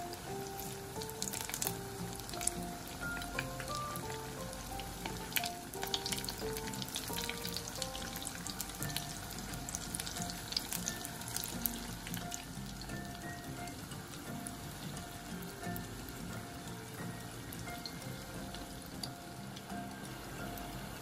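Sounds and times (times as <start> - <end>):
background music: 0.0 - 21.0
food deep-frying in oil: 0.0 - 21.0.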